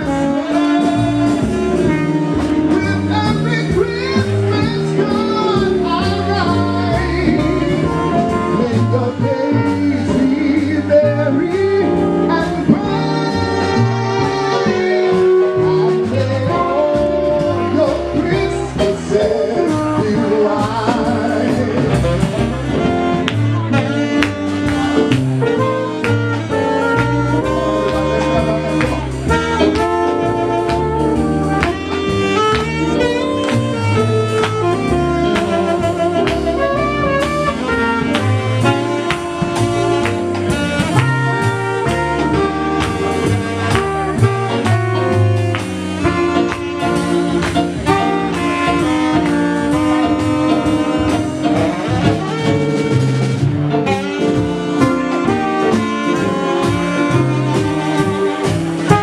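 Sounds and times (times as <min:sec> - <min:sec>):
drum kit beat: 0:00.0 - 0:59.0
electric keyboard: 0:00.0 - 0:59.0
saxophone: 0:00.0 - 0:59.0
trumpet: 0:00.0 - 0:59.0.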